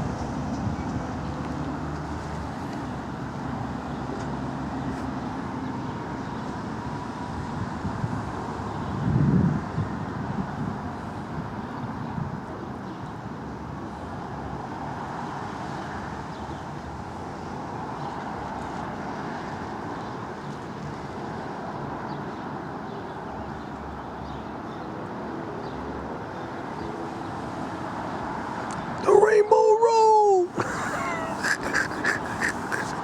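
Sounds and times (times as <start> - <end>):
outdoor background rush: 0.0 - 33.0.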